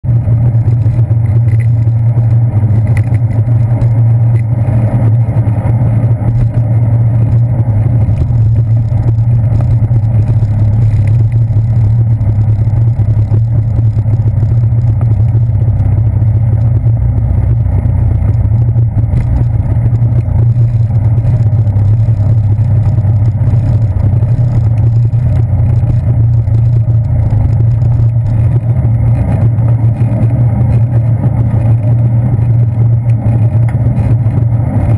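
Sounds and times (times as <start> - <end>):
bicycle tyre road rumble: 0.0 - 34.9
wind on camera: 0.1 - 34.9.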